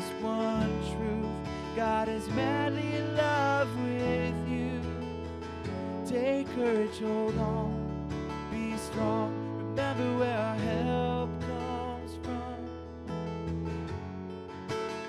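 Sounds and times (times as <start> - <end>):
person singing: 0.0 - 5.2, 5.9 - 12.8
acoustic guitar strummed: 0.0 - 15.0
sustained keyboard chords: 0.0 - 15.0.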